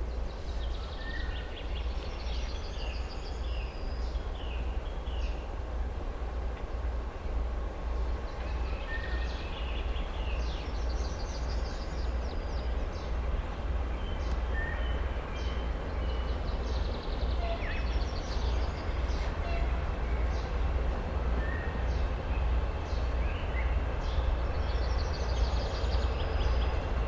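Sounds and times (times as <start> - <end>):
freight train rumbling past: 2.2 - 27.0.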